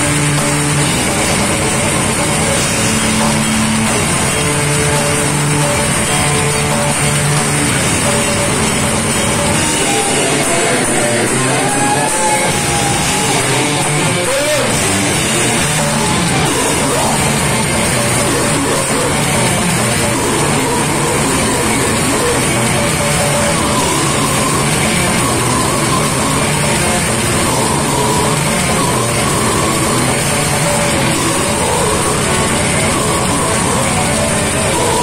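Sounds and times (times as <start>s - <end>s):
bass: 0.0s - 35.0s
death metal band playing: 0.0s - 35.0s
distorted electric guitars: 0.0s - 35.0s
drums: 0.0s - 35.0s.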